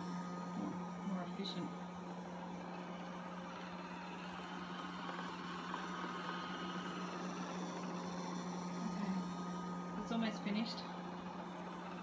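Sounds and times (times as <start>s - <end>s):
robot vacuum cleaner running: 0.0s - 12.0s.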